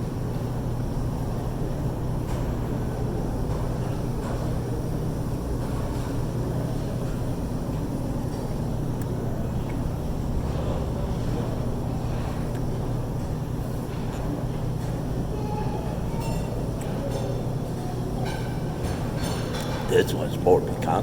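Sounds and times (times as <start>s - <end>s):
constant hum: 0.8s - 21.0s.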